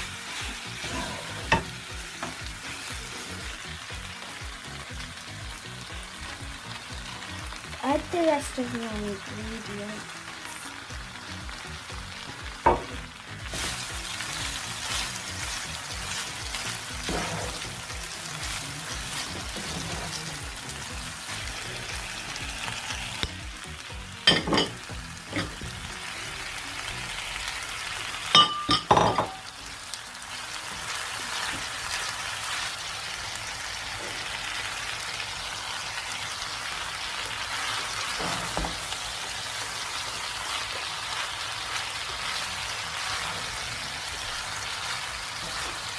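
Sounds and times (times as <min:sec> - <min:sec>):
noodles sizzling in a pan: 0:00.0 - 0:45.9.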